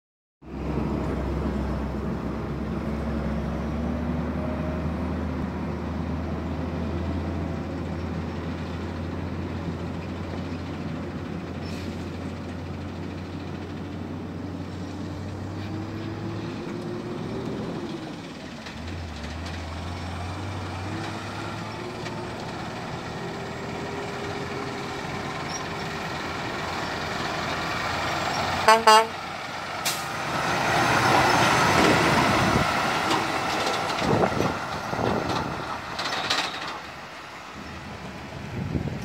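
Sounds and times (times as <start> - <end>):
diesel truck engine pulling away: 0.4 - 39.0.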